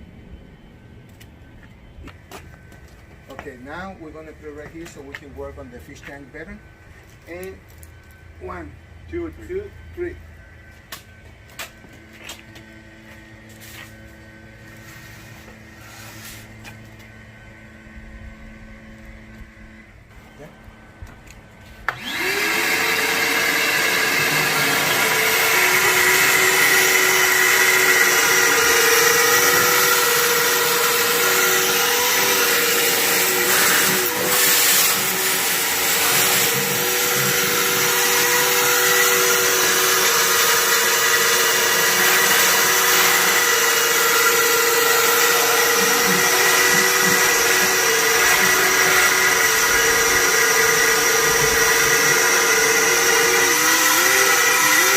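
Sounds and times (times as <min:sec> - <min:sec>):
vacuum cleaner motor whining: 0:09.3 - 0:54.9.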